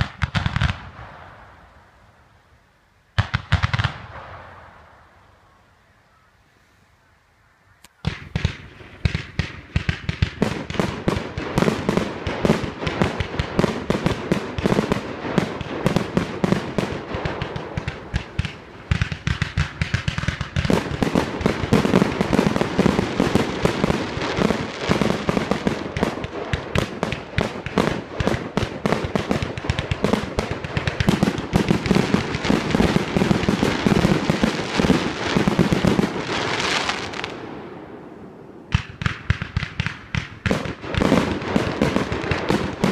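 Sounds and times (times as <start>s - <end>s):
fireworks bangs and crackles: 0.0s - 1.7s, 3.1s - 5.1s, 8.0s - 42.9s.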